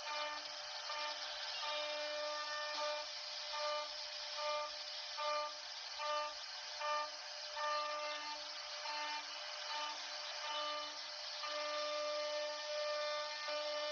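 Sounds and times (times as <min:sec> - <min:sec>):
router carving wood hiss: 0:00.0 - 0:13.9.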